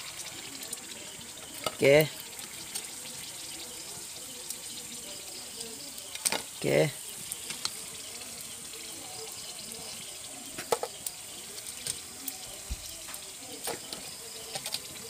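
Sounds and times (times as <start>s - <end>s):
oil popping and crackling: 0.0s - 15.0s
oil sizzling: 0.0s - 15.0s.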